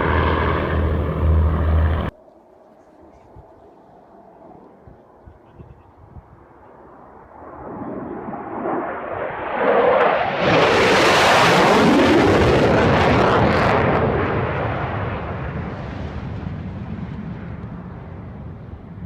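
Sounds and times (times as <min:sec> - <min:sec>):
military jet roaring past: 0:00.0 - 0:02.2, 0:03.0 - 0:19.0.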